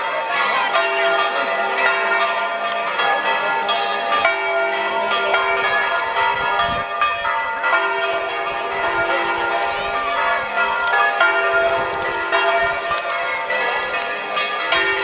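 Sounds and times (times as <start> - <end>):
bells ringing in a peal: 0.0 - 15.0.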